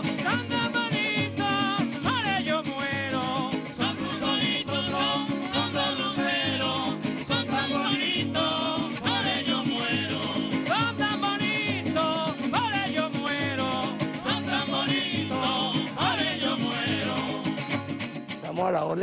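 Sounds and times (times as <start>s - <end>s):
men singing: 0.0s - 18.1s
hand drum: 0.0s - 18.6s
maracas shaking: 0.0s - 18.6s
strummed string instruments: 0.0s - 19.0s.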